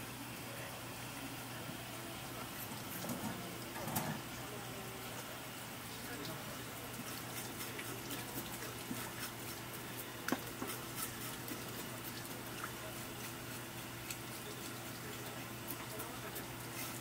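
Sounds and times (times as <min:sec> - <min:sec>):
water running from a hose: 0:01.8 - 0:17.0.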